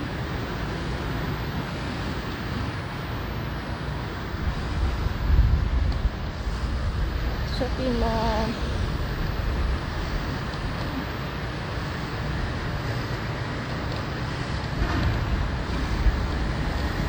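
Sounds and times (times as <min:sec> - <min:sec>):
street traffic: 0:00.0 - 0:15.0
wind on microphone: 0:00.0 - 0:17.0.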